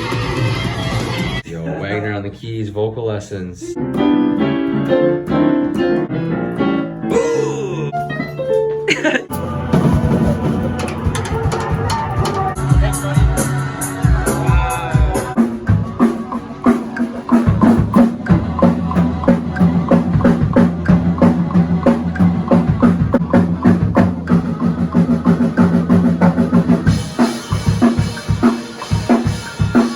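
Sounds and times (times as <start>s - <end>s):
sustained bass notes: 3.8s - 29.8s
drum kit beat: 3.8s - 29.9s.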